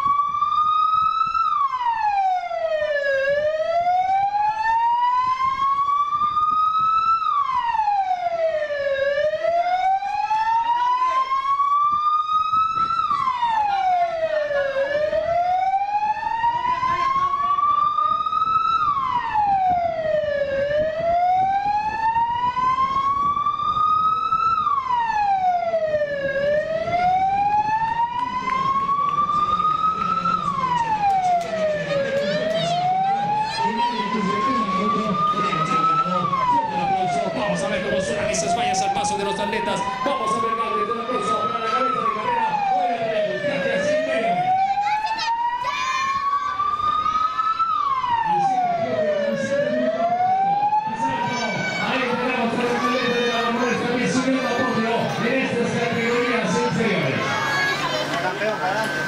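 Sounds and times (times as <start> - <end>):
emergency siren wailing: 0.0 - 59.0.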